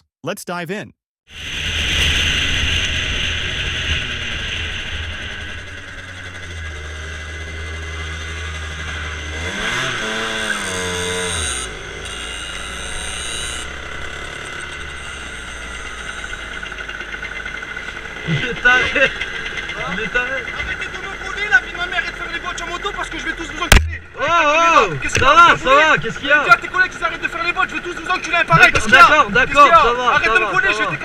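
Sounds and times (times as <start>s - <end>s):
road traffic: 1.4s - 31.0s
motorcycle engine running: 2.6s - 31.0s.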